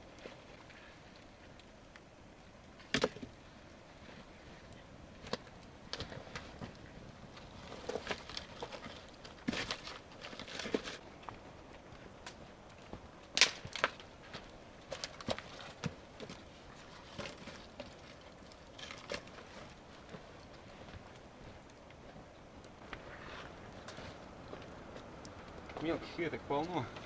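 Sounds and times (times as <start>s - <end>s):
dry twigs cracking: 4.7s - 27.0s.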